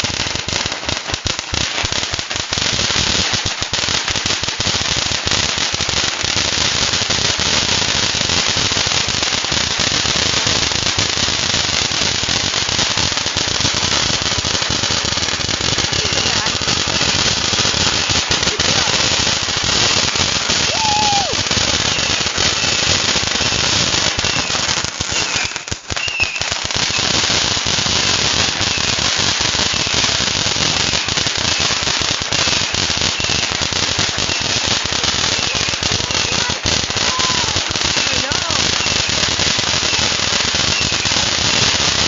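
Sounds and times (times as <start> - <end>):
firework whistles: 0.0 - 42.0
fireworks crackling: 0.0 - 42.0.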